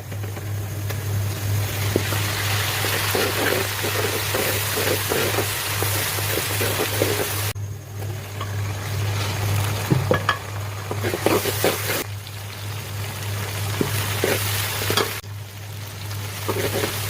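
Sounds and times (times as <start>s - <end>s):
food sizzling in a hot pan: 0.6s - 7.6s, 8.2s - 17.0s.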